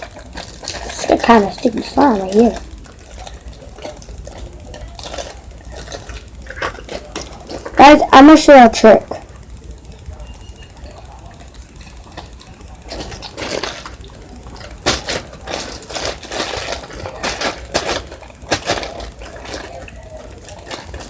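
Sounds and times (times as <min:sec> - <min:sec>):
slime crackling and squelching: 0:00.0 - 0:09.2, 0:10.9 - 0:21.0.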